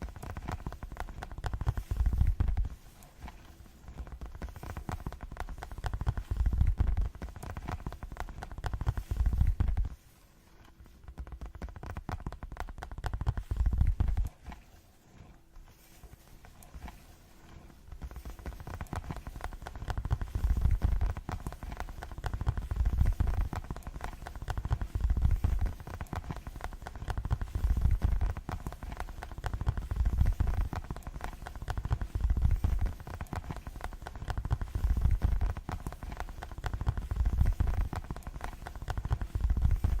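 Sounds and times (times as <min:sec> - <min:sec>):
fast tapping close to microphone: 0:00.0 - 0:10.0, 0:10.7 - 0:14.8, 0:15.9 - 0:40.0.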